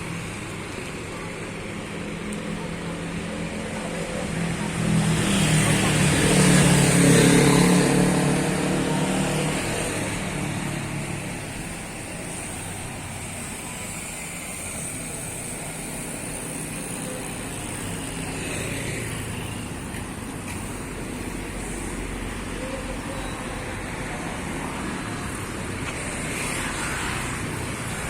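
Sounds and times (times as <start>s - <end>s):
traffic hum: 0.0s - 28.0s.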